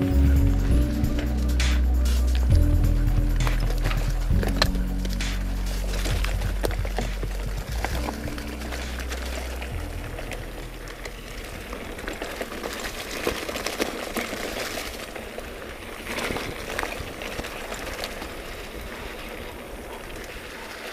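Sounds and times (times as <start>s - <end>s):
bike rattling over bumps: 0.0s - 20.9s
tyres crunching over dirt: 0.0s - 20.9s.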